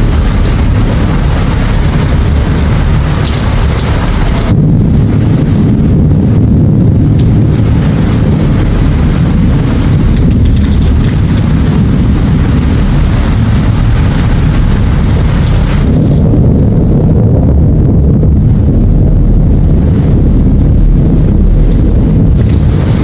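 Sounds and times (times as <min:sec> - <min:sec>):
storm hiss: 0:00.0 - 0:23.0
storm low rumble: 0:00.0 - 0:23.0.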